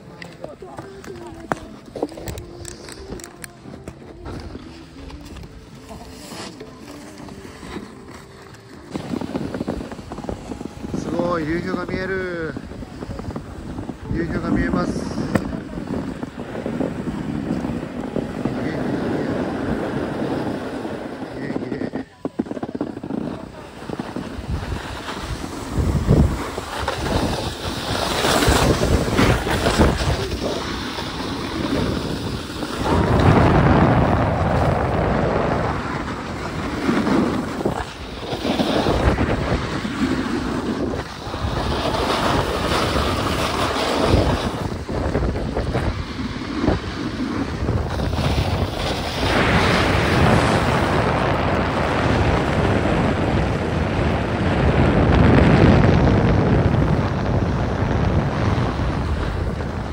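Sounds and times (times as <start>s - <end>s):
skis scraping over snow: 0.0s - 59.9s
wind over microphone: 0.0s - 59.9s.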